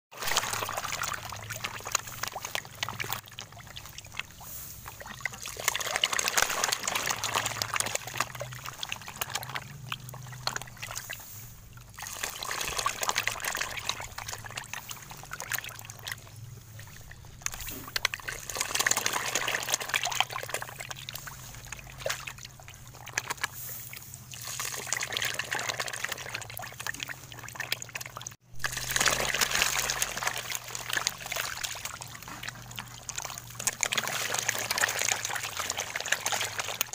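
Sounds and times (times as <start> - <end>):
water splashing in a bucket: 0.1 - 36.9.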